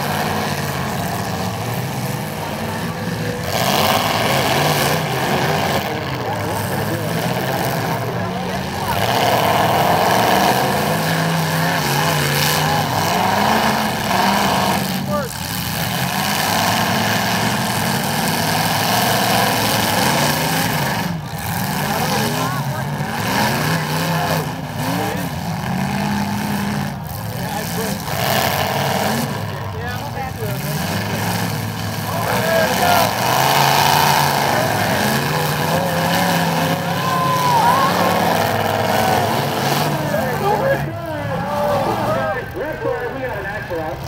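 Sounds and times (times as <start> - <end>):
car engines droning: 0.0 - 44.0.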